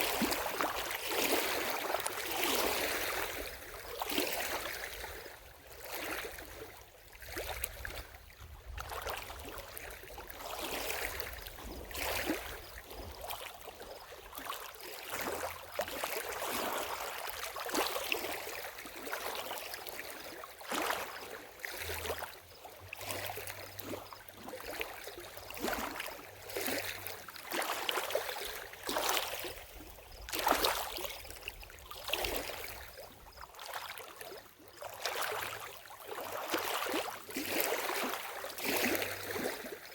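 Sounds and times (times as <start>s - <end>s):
lake water lapping: 0.0s - 39.9s.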